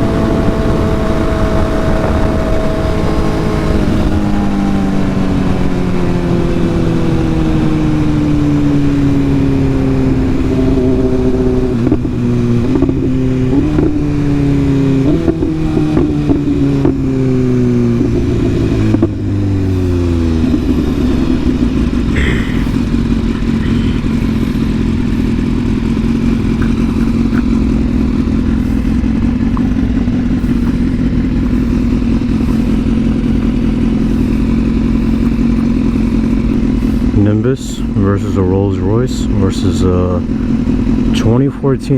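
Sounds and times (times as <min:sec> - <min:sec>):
motorcycle engine slowing and idling: 0:00.0 - 0:41.9
motorcycle rev blips: 0:00.0 - 0:41.9.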